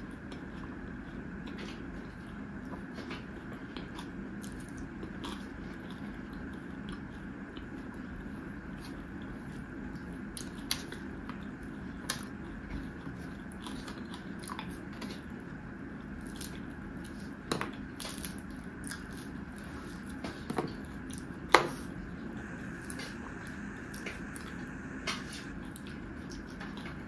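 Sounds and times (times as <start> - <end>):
chewing and wet mouth sounds: 0.0 - 27.0
steady low hum: 0.0 - 27.0.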